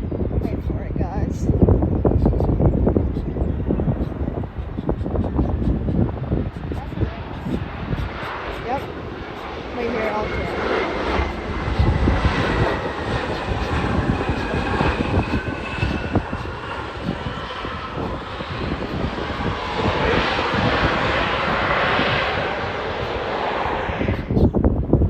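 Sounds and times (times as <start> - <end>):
airplane engines roaring past: 0.0 - 25.0
high engine whine: 1.2 - 24.4.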